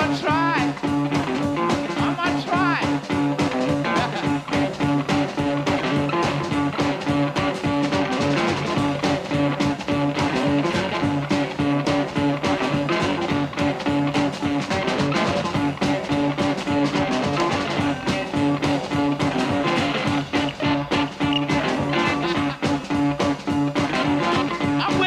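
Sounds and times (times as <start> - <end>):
drum beat: 0.0 - 25.0
electric guitar: 0.0 - 25.0
low bass riff: 0.0 - 25.0.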